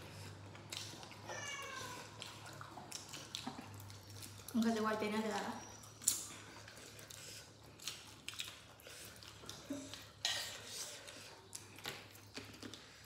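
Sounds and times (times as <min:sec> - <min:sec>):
mouths chewing: 0:00.0 - 0:13.0.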